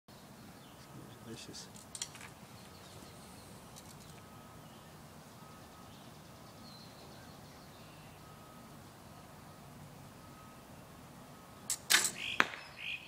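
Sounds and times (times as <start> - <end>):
low background hiss: 0.1 - 13.0
faint bird chirps: 2.4 - 13.0.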